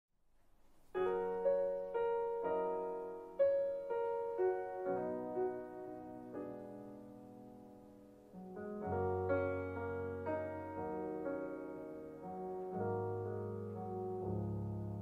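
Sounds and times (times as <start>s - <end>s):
slow solo piano through loudspeakers: 0.7s - 15.0s.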